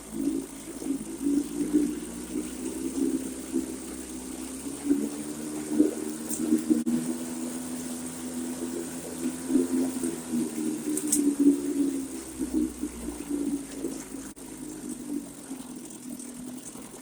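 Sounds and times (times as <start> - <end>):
churning gushing water: 0.0 - 17.0
outboard motor hum: 0.0 - 17.0.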